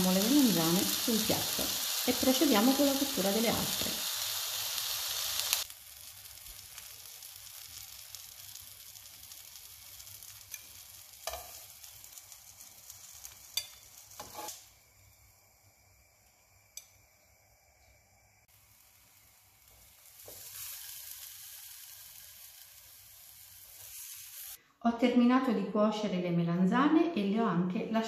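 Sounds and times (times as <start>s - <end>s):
eggplant sizzling in oil: 0.0s - 24.6s.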